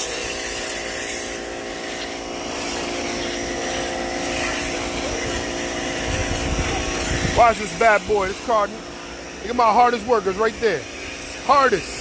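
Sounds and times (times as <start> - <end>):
pressure washer motor hum: 0.0 - 12.0
water spray hissing: 0.0 - 12.0.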